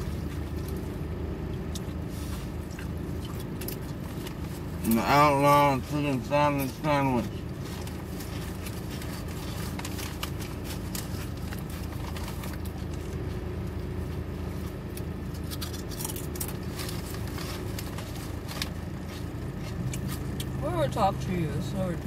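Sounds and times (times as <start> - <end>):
chewing a sandwich: 0.0 - 20.6
car cabin hum: 0.0 - 22.0.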